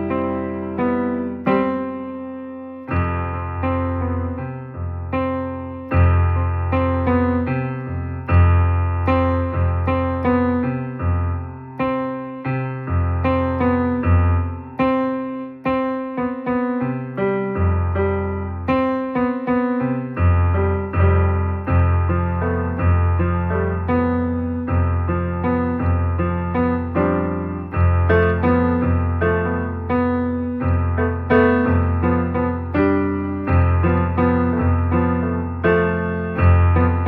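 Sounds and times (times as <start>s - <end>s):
soft keyboard piano chords: 0.0s - 37.0s.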